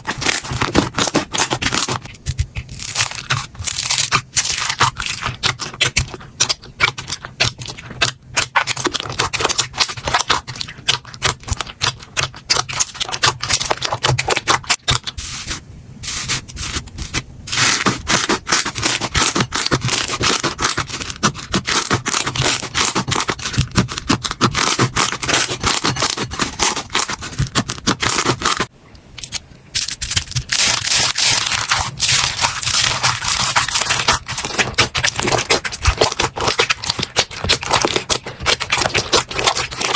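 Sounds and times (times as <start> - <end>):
slime crackling and squishing: 0.0 - 39.9.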